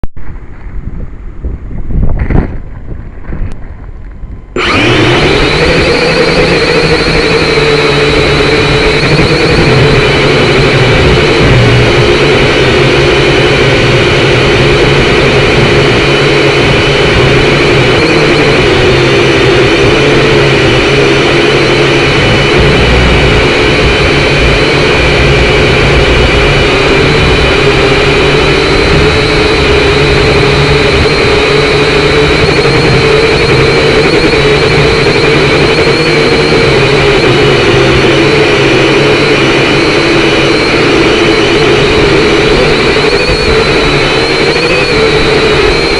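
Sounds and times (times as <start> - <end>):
wind rumbling on microphone: 0.1 - 45.9
drone propellers buzzing: 4.4 - 45.9.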